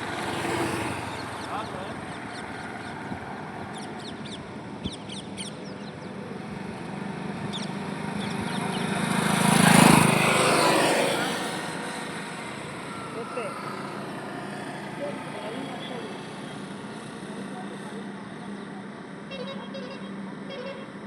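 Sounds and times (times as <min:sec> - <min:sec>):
vehicle passing close: 0:00.0 - 0:18.2
highway traffic: 0:00.0 - 0:21.0.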